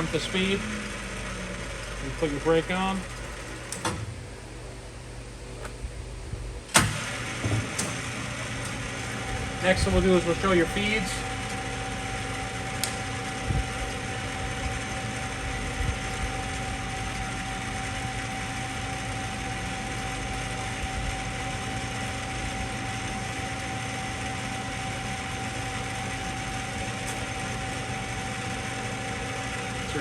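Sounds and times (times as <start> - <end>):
lathe whining: 0.0 - 5.3, 6.6 - 30.0.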